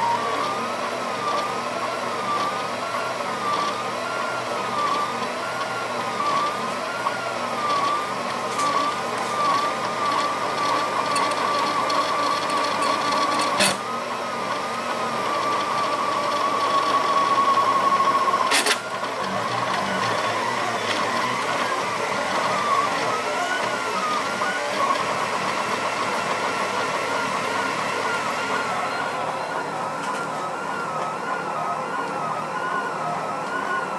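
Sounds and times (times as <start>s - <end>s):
stepper motors whining: 0.0s - 33.9s.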